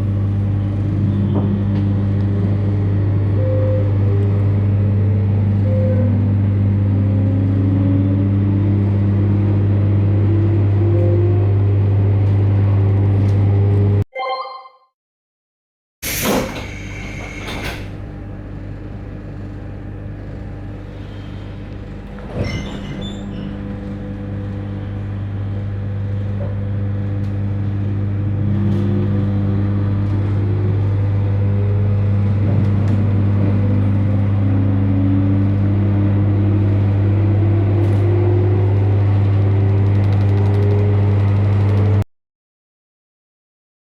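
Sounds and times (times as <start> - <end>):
electric train low hum: 0.0 - 14.0, 16.0 - 42.0.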